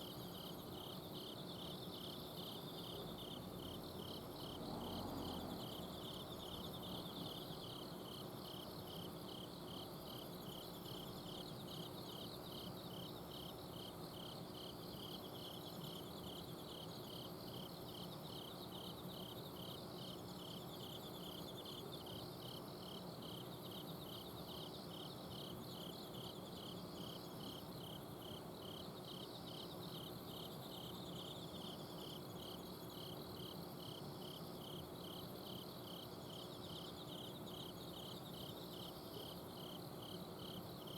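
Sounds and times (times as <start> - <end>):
cricket chirping: 0.0 - 40.9
higher cricket trills: 0.0 - 40.9.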